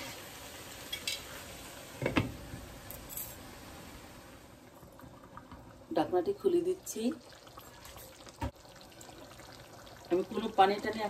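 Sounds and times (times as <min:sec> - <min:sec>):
curry sizzling: 0:00.0 - 0:11.0.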